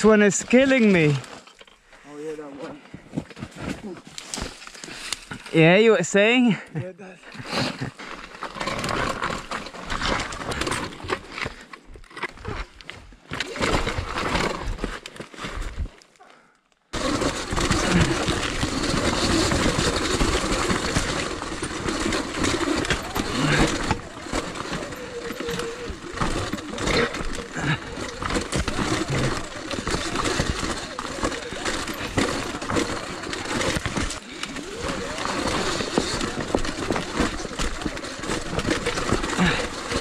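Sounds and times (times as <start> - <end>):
bike rattling over loose rock: 0.0 - 1.8, 7.4 - 16.0, 16.9 - 40.0.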